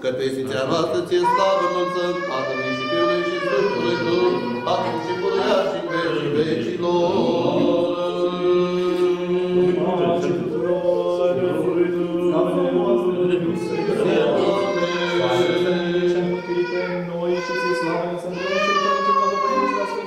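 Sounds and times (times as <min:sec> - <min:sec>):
voices chanting: 0:00.4 - 0:20.0.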